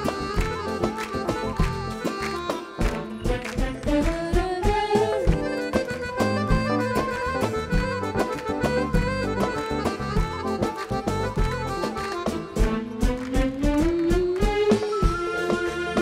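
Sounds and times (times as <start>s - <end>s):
hand drum beats: 0.0s - 16.0s
keyboard melody: 0.0s - 16.0s.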